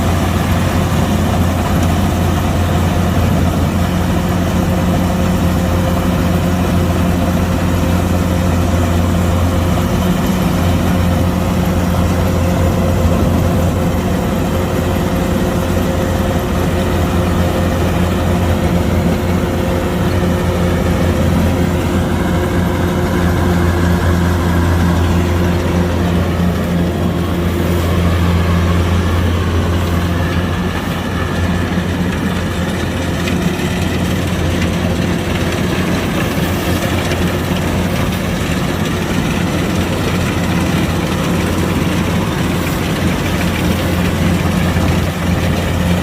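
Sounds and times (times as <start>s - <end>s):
combine harvester diesel engine: 0.0s - 46.0s.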